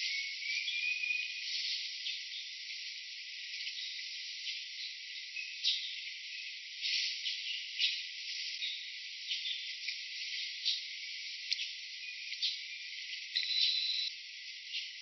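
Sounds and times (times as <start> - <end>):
insects buzzing and chirping: 0.0 - 15.0.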